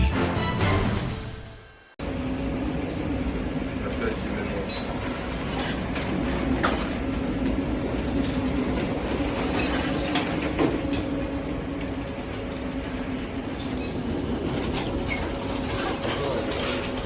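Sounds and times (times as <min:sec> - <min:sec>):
mechanical rumble with low hum: 0:01.8 - 0:17.0.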